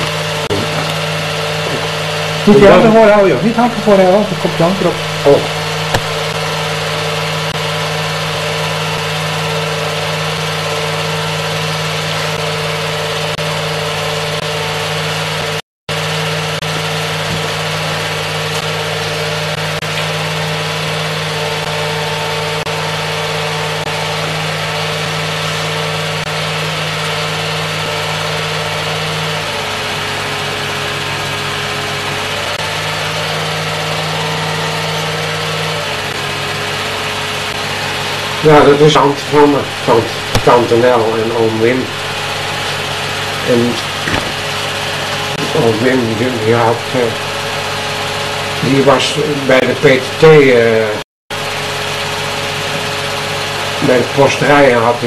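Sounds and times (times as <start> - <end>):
machine hum with hiss: 0.0 - 55.0.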